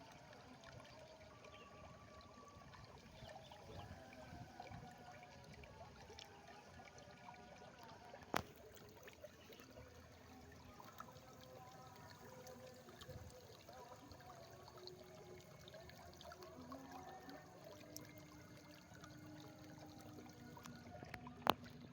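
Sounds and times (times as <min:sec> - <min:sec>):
water trickling and gurgling: 0:00.0 - 0:21.9.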